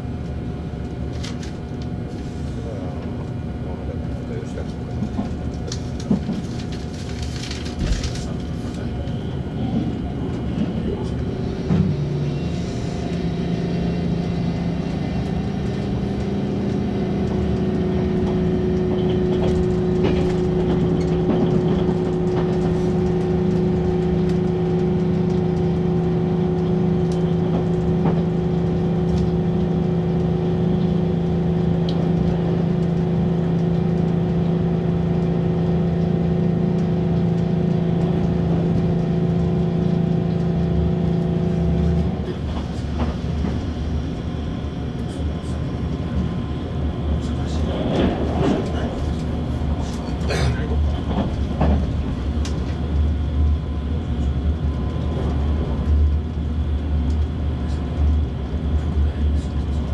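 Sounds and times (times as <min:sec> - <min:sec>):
constant low hum: 0:00.0 - 0:59.9
train wheels rumbling on rail: 0:00.0 - 0:59.9.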